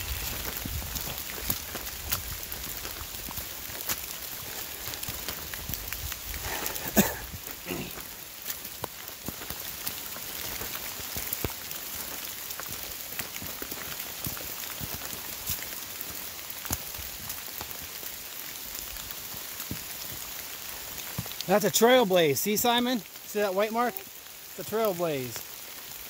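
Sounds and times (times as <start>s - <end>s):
light rain on leaves: 0.0s - 26.0s
raindrop ticks: 0.0s - 26.0s.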